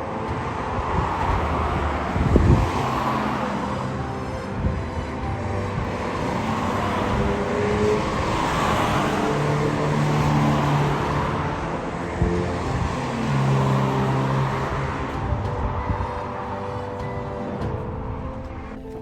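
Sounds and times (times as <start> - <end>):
background music: 0.0 - 19.0
car driving by: 0.0 - 19.0.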